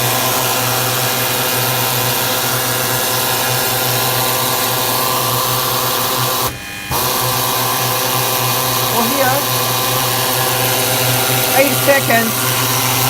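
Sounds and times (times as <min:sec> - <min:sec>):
sanding machine motor hum: 0:00.0 - 0:13.0.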